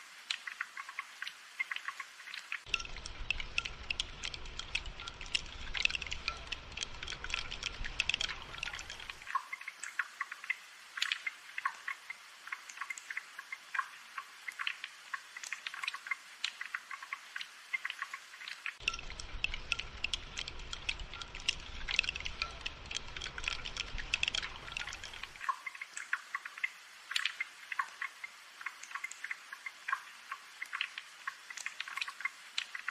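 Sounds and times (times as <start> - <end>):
rain drops pattering: 0.0 - 32.9.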